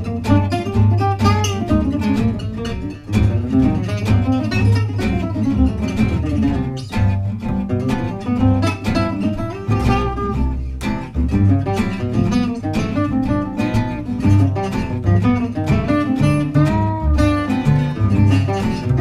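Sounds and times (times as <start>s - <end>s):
lead guitar: 0.0s - 19.0s
plucked upright double bass: 0.0s - 19.0s
strummed rhythm guitar: 0.0s - 19.0s.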